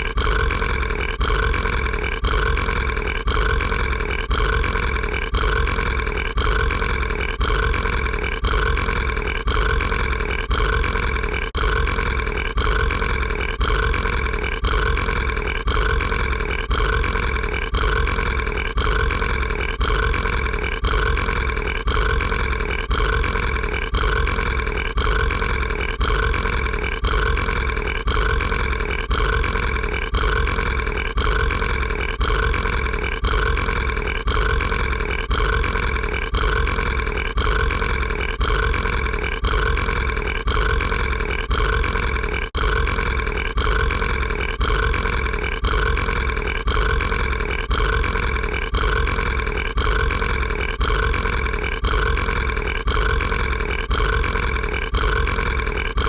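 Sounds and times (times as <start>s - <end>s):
cartoon monster burp looped: 0.0s - 56.0s.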